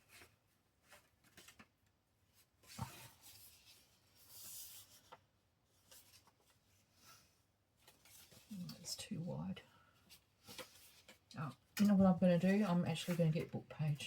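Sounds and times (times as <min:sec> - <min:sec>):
paper rustling: 0:00.0 - 0:08.9, 0:10.1 - 0:14.0.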